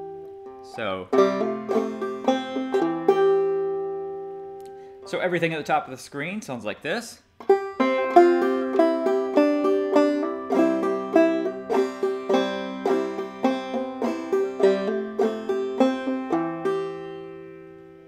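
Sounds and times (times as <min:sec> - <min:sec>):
banjo plucked and strummed: 0:00.0 - 0:05.2, 0:07.4 - 0:18.0.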